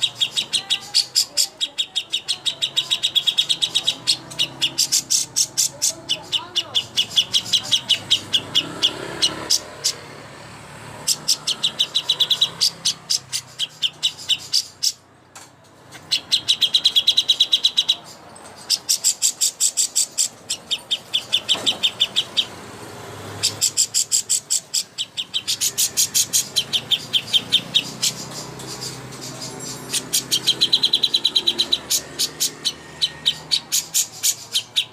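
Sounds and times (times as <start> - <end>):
songbird chattering trills: 0.0 - 10.2, 10.9 - 15.1, 16.0 - 22.6, 23.2 - 34.9.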